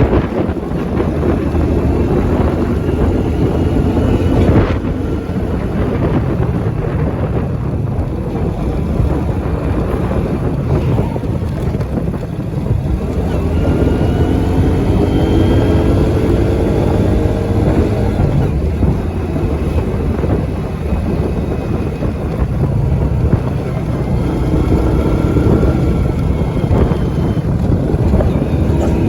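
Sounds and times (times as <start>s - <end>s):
road traffic passing: 0.0s - 29.0s
vehicle engine passing: 0.0s - 29.0s
wind rumble on microphone: 0.0s - 29.0s.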